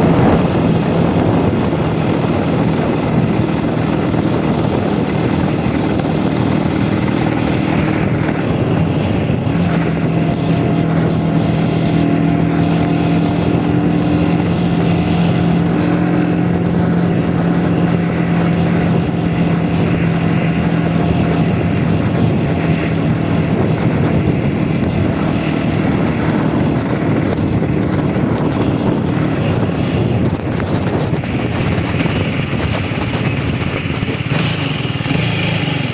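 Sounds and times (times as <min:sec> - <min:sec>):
motorcycle engine running: 0:00.0 - 0:35.9
wind noise: 0:00.0 - 0:35.9.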